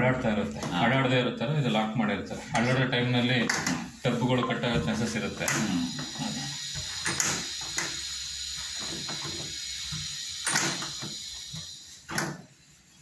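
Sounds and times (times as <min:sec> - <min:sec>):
steady hiss: 0:01.0 - 0:13.0.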